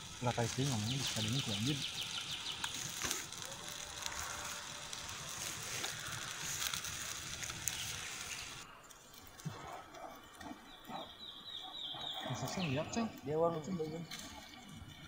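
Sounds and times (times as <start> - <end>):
fire of straw and twigs crackling: 0.0 - 15.0
steady hiss of fire: 0.0 - 15.0.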